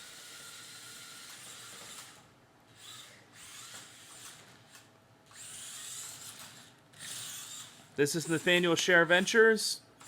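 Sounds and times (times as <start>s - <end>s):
toy car electric motors whirring: 0.0s - 8.7s.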